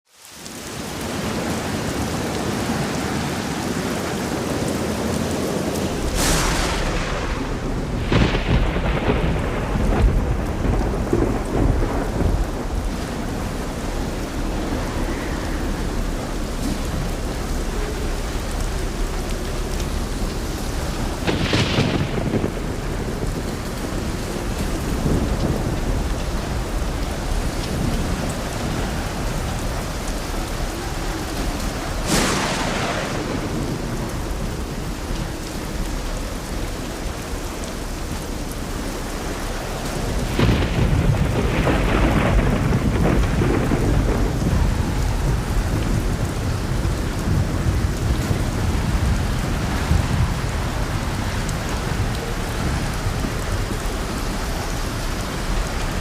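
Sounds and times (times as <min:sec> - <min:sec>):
heavy rain: 0:00.0 - 0:56.0
thunder cracks and rumble: 0:00.6 - 0:56.0.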